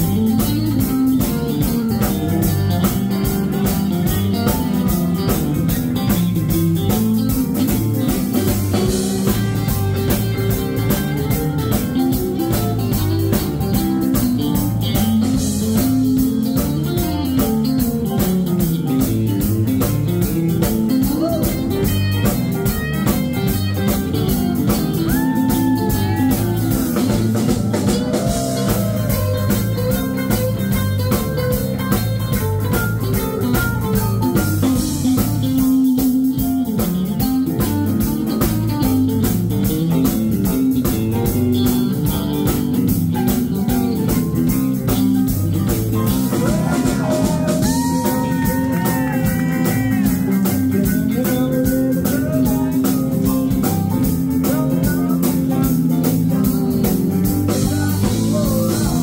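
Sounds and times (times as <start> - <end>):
blues band playing: 0.0 - 59.0
lead guitar bending notes: 0.0 - 59.0.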